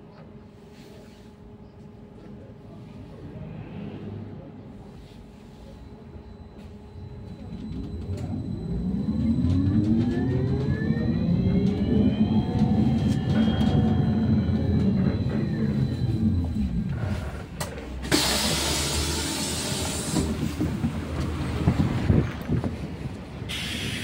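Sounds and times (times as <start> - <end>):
bus interior rumble: 0.0 - 24.0.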